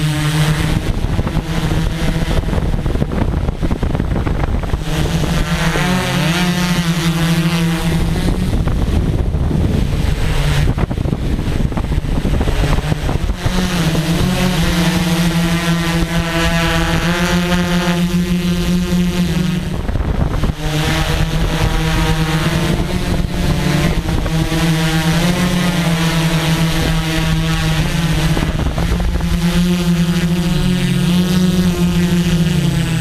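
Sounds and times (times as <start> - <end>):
drone propellers humming: 0.0 - 33.0
wind on microphone: 0.0 - 33.0.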